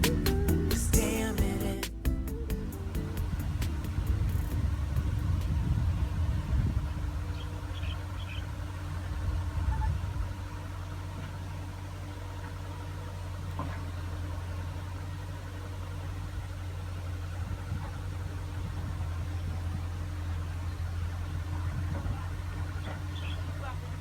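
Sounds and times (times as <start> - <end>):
heavy machinery engine humming: 0.0 - 24.0.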